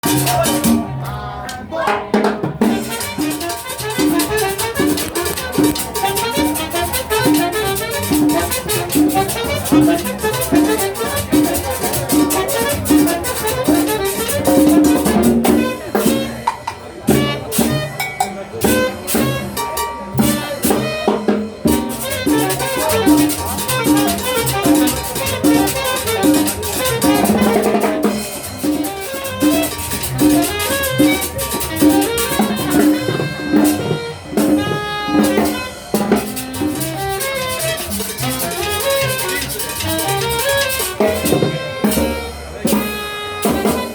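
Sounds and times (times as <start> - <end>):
drum kit beat: 0.0 - 1.0, 1.8 - 43.9
brass: 0.0 - 1.1, 2.6 - 16.5, 17.1 - 18.0, 18.6 - 43.9.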